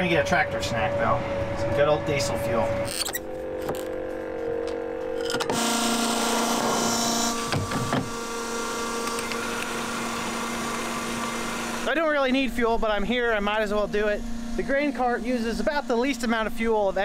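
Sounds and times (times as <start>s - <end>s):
fuel pump motor humming: 0.3s - 17.0s.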